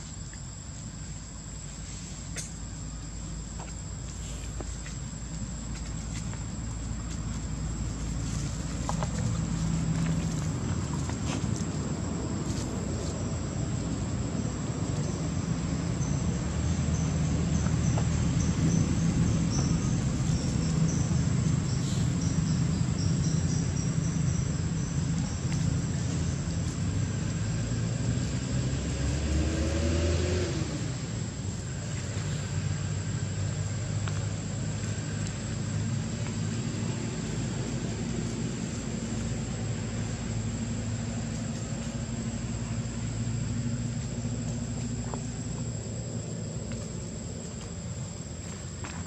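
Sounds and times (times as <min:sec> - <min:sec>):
distant engine rumble: 0:00.0 - 0:49.0.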